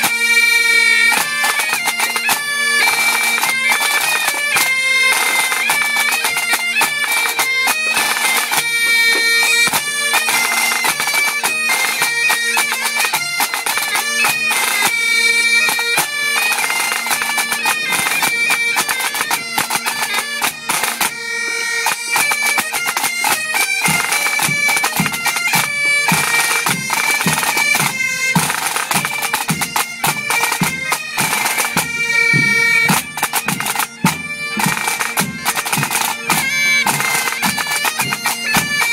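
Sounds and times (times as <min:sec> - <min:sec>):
bagpipes playing a melody: 0:00.0 - 0:38.9.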